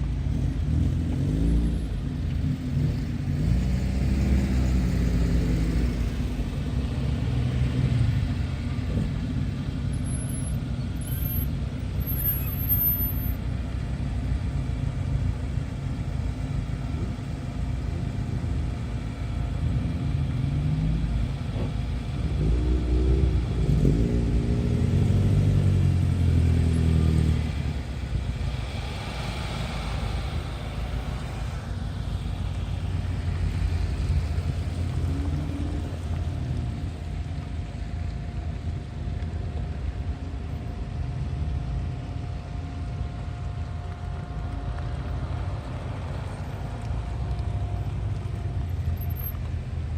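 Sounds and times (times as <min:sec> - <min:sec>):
car engines rumbling: 0:00.0 - 0:49.9.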